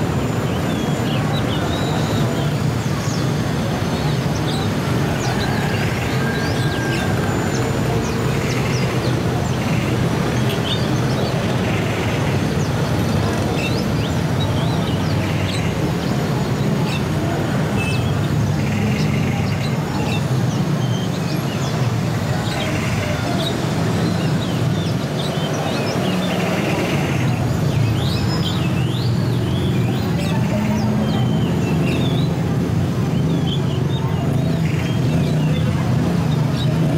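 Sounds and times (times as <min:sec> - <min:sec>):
songbirds chirping: 0:00.0 - 0:36.9
traffic rumble: 0:00.0 - 0:36.9.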